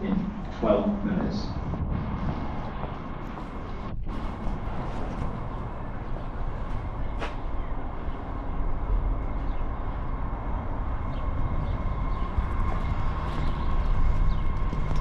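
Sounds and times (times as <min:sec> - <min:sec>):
subway train approaching: 0:00.0 - 0:15.0.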